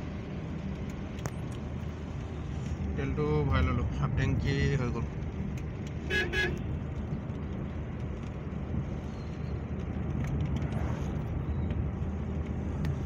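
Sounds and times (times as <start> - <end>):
car engine rumble: 0.0 - 13.0
tyres on wet road: 0.0 - 13.0.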